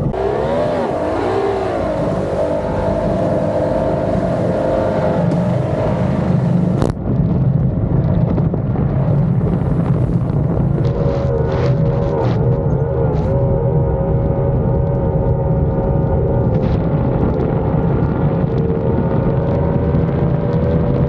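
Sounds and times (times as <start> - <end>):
outboard engines running hard: 0.0 - 21.0.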